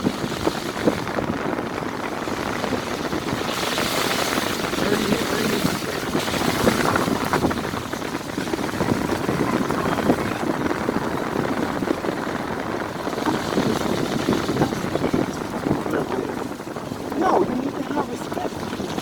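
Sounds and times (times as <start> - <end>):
car driving slowly: 0.0 - 19.0
wind buffeting microphone: 0.0 - 19.0.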